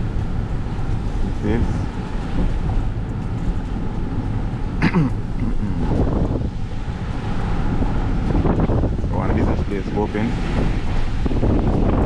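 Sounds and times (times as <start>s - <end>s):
car road rumble: 0.0s - 12.0s
wind buffeting microphone: 0.0s - 12.0s.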